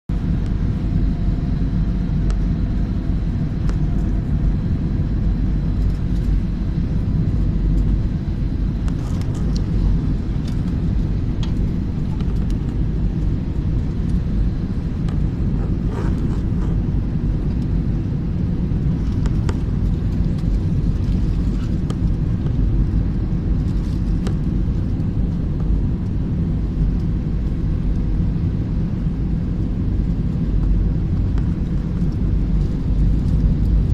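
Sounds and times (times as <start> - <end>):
airliner engines and rushing air: 0.1 - 33.9.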